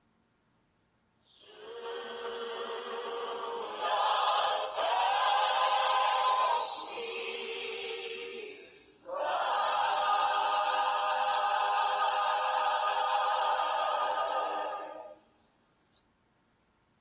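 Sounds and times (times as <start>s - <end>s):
choir-like held chord: 1.3s - 15.3s.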